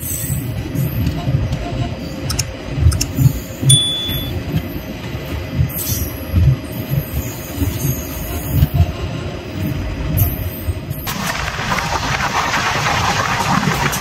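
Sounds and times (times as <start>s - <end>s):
low train rumble: 0.0s - 14.0s.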